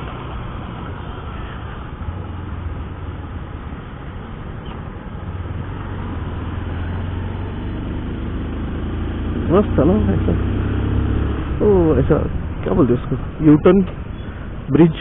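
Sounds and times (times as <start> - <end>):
motorcycle engine rumbling: 0.0 - 15.0
wind and road noise: 0.0 - 15.0.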